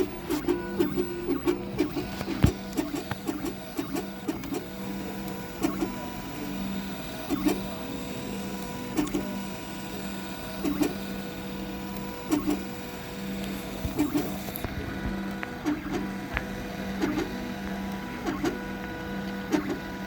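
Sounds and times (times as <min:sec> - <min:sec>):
printer stepper motors running: 0:00.0 - 0:20.0
steady electrical hum: 0:00.0 - 0:20.0.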